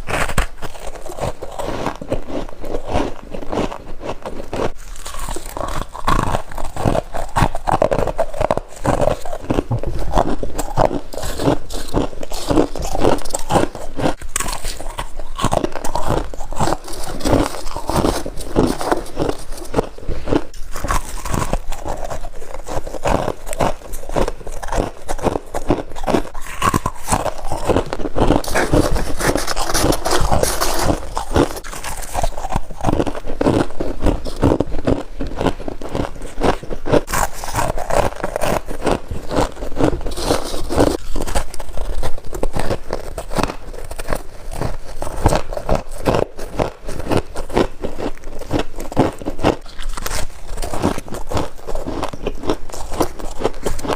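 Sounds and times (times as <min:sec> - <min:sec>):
crunching and chewing frost: 0:00.0 - 0:53.9.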